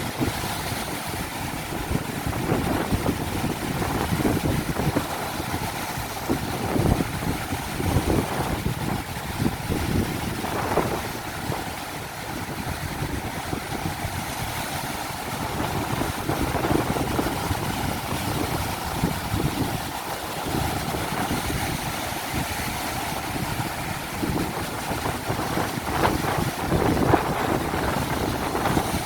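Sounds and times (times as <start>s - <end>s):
ocean surf breaking: 0.0s - 29.0s
wind buffeting microphone: 0.0s - 29.0s.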